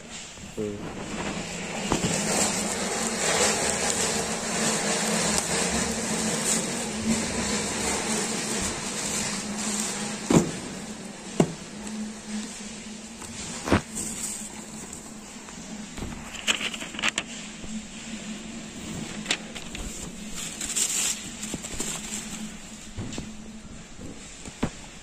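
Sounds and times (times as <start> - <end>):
plastic mailer rustling and crinkling: 0.8 - 25.0.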